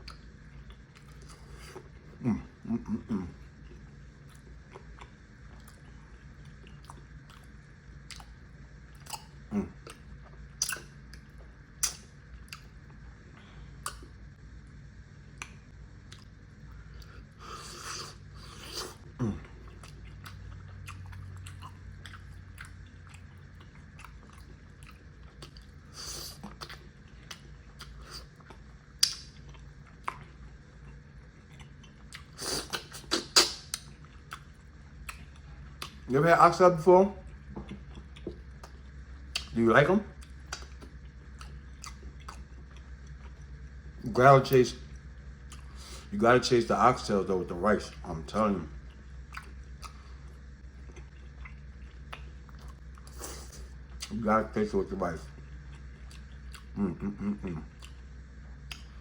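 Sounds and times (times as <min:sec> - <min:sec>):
person chewing and smacking: 0:00.0 - 0:02.2, 0:02.8 - 0:13.1, 0:13.8 - 0:14.2, 0:15.3 - 0:36.1, 0:37.2 - 0:43.6, 0:45.0 - 0:46.1, 0:48.8 - 0:54.3, 0:55.2 - 0:59.0.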